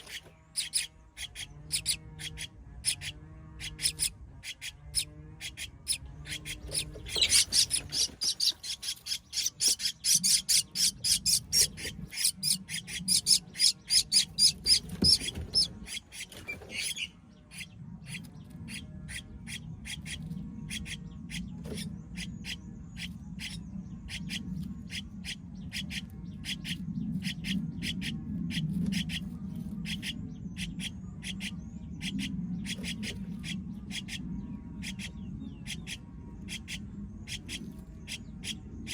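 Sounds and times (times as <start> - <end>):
baby bird chirping: 0.0 - 34.2, 34.8 - 38.9
low hum: 0.0 - 38.9.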